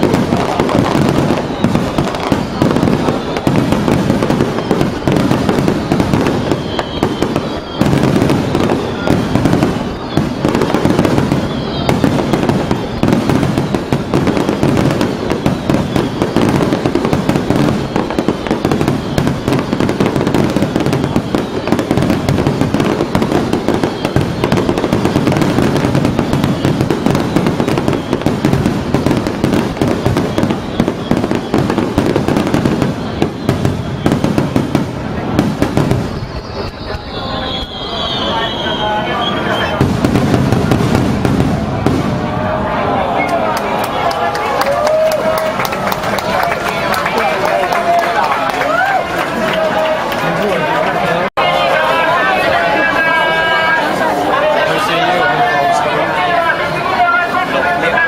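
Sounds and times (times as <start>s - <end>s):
fireworks booming and crackling: 0.0s - 58.0s.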